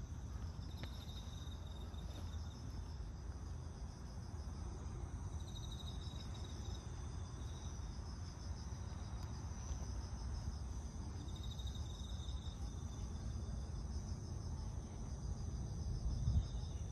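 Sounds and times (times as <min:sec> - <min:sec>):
high insect trill: 0:00.0 - 0:16.9
insects chirring: 0:00.0 - 0:16.9.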